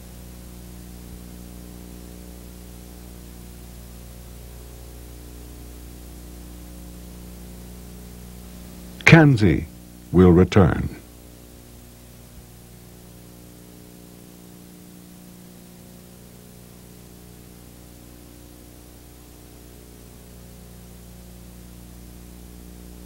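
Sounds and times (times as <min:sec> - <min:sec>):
low electrical hum: 0:00.0 - 0:23.0
tape hiss: 0:00.0 - 0:23.0.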